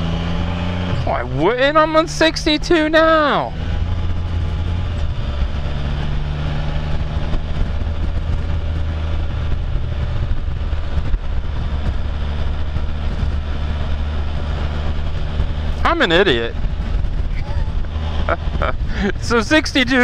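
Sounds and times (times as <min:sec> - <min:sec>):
motorcycle engine cruising: 0:00.0 - 0:20.0
wind rush: 0:02.6 - 0:20.0.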